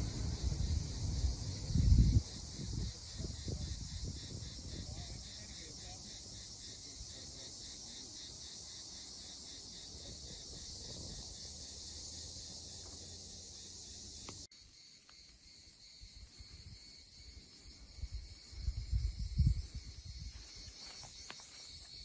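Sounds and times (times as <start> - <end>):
insects pulsing chorus: 0.0 - 22.0
outdoor ambience: 0.0 - 22.0.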